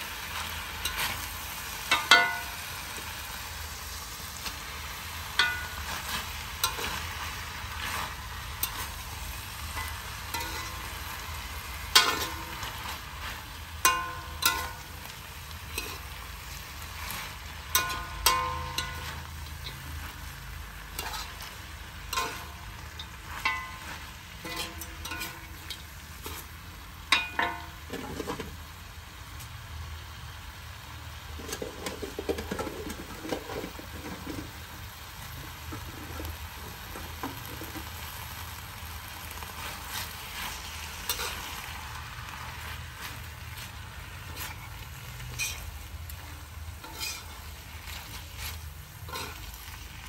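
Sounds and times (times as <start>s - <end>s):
stir-frying sizzle in a wok: 0.0s - 50.0s
metal spatula scraping a pan: 0.1s - 28.6s, 31.3s - 34.7s, 39.3s - 50.0s.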